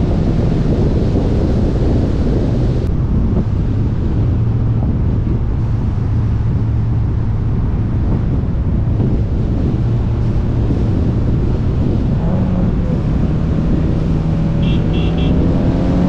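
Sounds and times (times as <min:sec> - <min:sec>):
engine and tyres drone: 0:00.0 - 0:16.0
wind rushing over microphone: 0:00.0 - 0:16.0.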